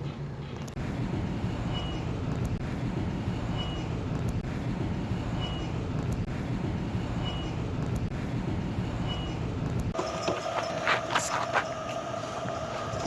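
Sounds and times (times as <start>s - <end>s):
heavy vehicle engine running: 0.2s - 13.0s.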